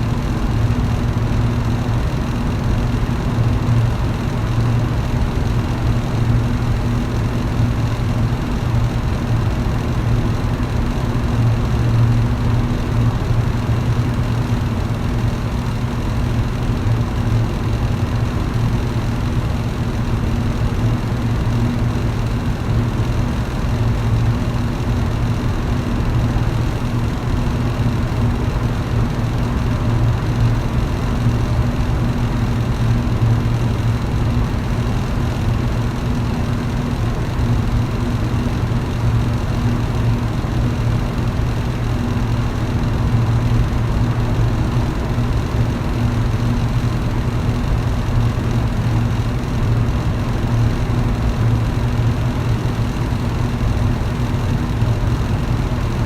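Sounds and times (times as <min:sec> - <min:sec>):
electric fan humming: 0:00.0 - 0:56.0
fan air rushing: 0:00.0 - 0:56.0.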